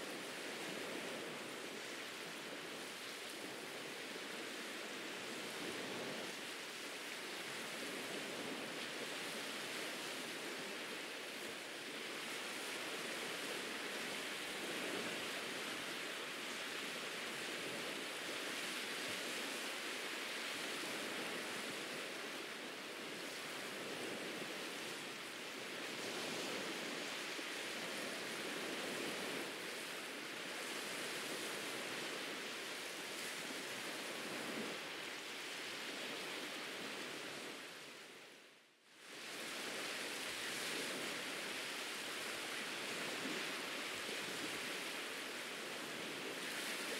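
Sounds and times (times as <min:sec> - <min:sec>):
ocean surf washing onto beach: 0:00.0 - 0:46.9.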